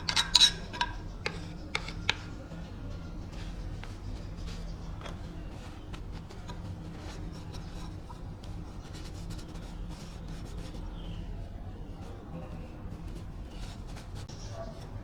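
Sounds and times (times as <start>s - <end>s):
scraping and rubbing strokes: 0.0s - 15.0s.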